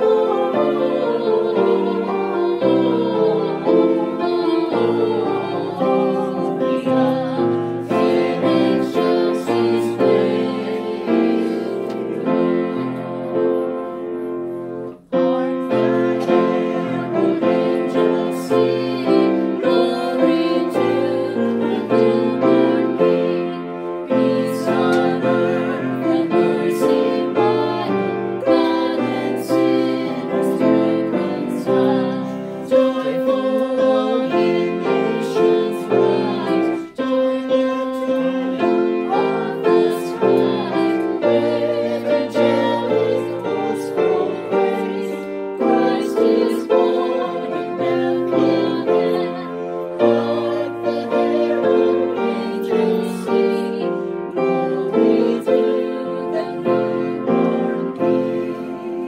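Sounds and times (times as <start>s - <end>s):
woman singing: 0.0s - 13.4s, 15.2s - 59.0s
upright piano accompaniment: 0.0s - 59.0s.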